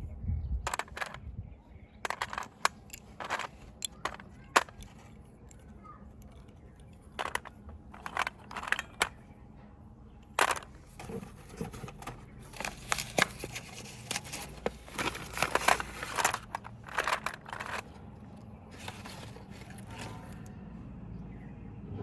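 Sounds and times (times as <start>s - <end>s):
low steady background noise: 0.0s - 22.0s.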